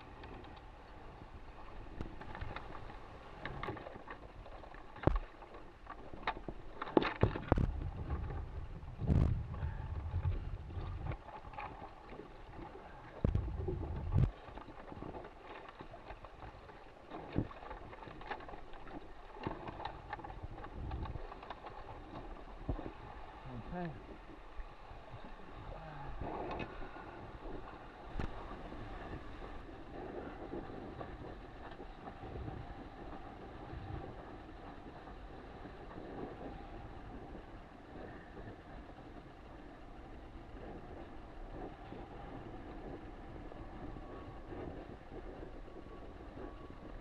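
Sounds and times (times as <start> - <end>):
water lapping against hull: 0.0 - 47.0
wind rumbling on microphone: 0.0 - 47.0.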